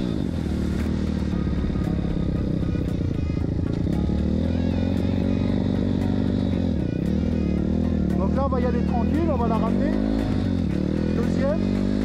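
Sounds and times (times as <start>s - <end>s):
background music: 0.0s - 12.0s
motorbike engine revving: 0.0s - 12.0s.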